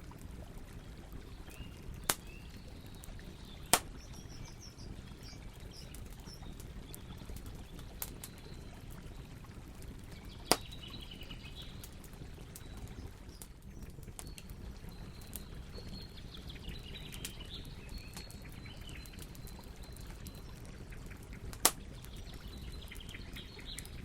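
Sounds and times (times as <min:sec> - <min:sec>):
campfire crackling: 0:00.0 - 0:24.0
faint birdsong: 0:00.8 - 0:24.0.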